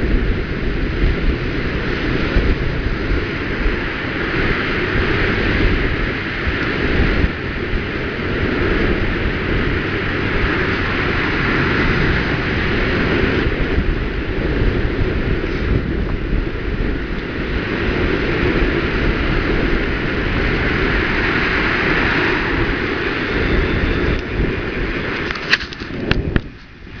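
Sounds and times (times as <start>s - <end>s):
freeway traffic: 0.0s - 27.0s
wind buffeting microphone: 0.0s - 27.0s.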